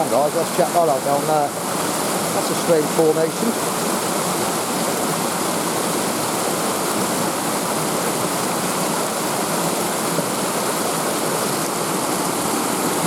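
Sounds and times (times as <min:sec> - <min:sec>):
water rushing over falls: 0:00.0 - 0:13.0.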